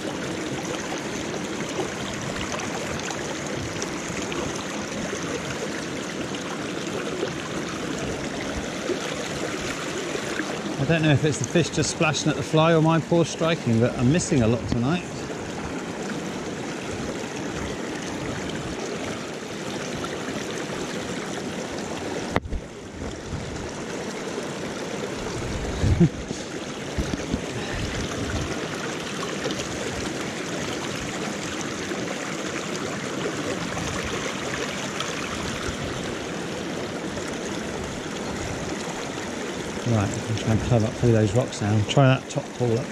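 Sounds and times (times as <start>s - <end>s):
stream rushing over stones: 0.0s - 42.9s.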